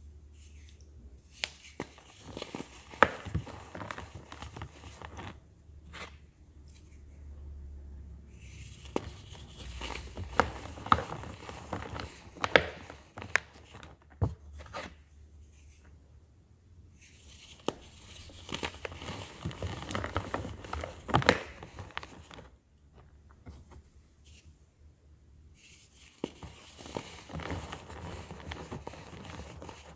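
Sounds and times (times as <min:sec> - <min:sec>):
powder rustling: 0:01.4 - 0:06.2, 0:08.4 - 0:15.8, 0:17.0 - 0:24.4, 0:25.6 - 0:29.9.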